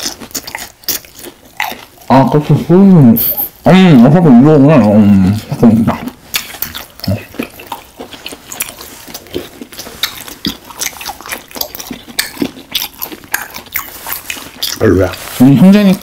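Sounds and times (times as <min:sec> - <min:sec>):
crunchy chewing: 0:00.0 - 0:02.6, 0:04.8 - 0:16.0.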